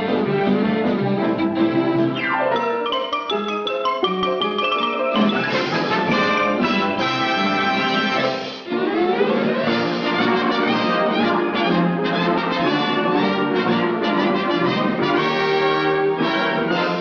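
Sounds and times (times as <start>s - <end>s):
orchestral cartoon music with brass: 0.0s - 17.0s.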